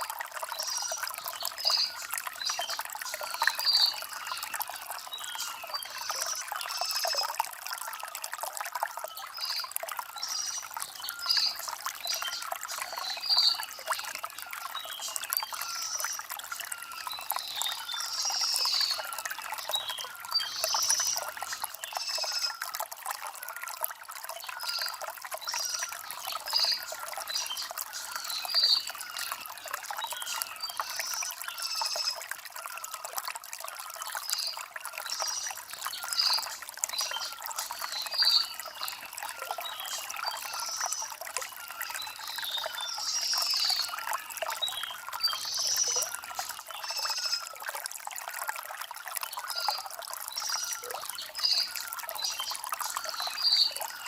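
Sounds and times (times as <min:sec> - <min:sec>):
stream trickling over stones: 0:00.0 - 0:54.0.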